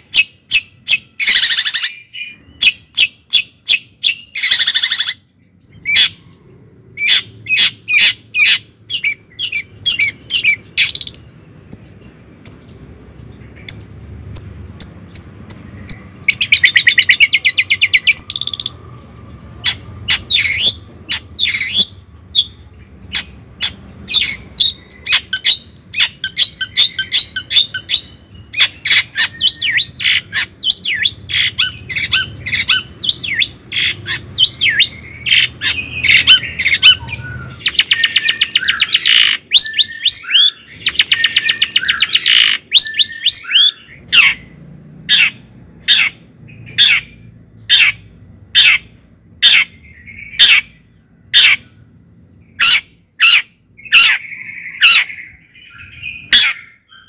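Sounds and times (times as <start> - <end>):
bird chirping and squawking: 0.0 - 57.0
sharp bird calls: 0.0 - 57.0.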